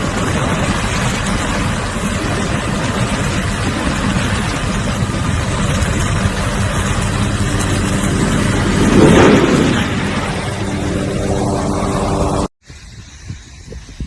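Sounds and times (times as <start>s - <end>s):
engine humming: 0.0s - 12.5s.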